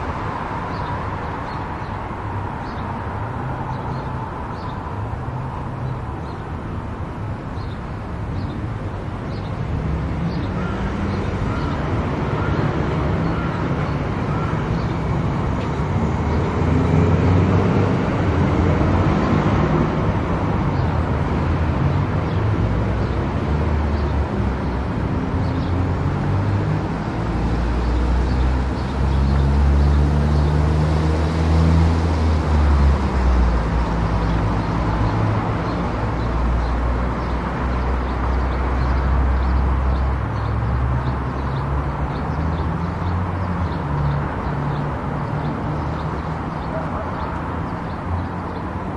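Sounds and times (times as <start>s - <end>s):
tyre and road noise: 0.0s - 48.9s.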